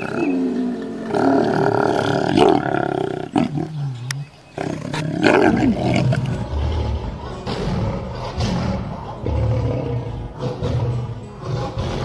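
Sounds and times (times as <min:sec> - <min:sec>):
lion roaring and growling: 0:00.0 - 0:12.0.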